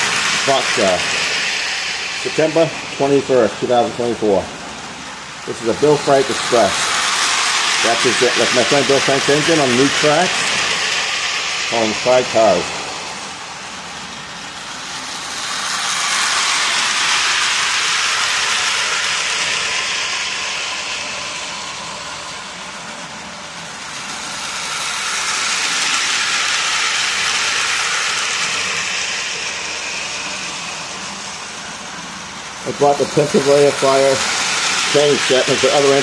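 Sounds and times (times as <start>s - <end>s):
toy train whirring on rails: 0.0s - 36.0s.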